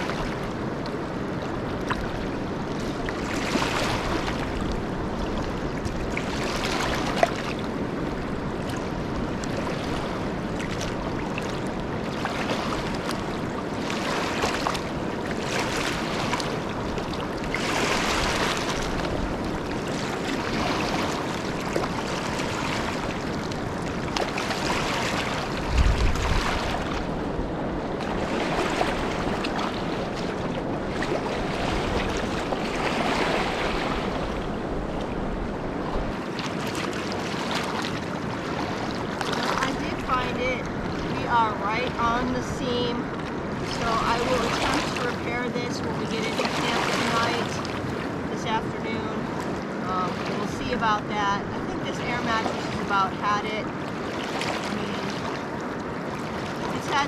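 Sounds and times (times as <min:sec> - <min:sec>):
river water rushing: 0:00.0 - 0:57.0
wind on microphone: 0:00.0 - 0:57.0.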